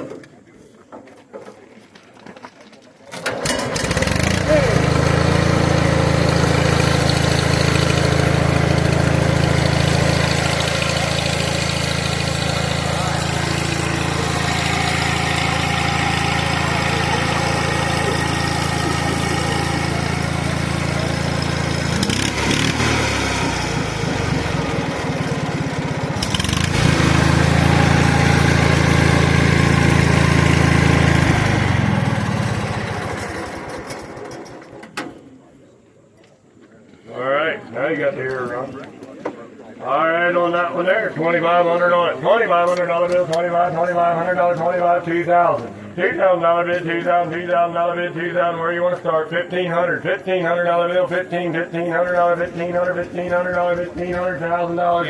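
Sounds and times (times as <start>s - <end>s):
tractor engine running: 3.1s - 35.0s, 41.7s - 55.0s.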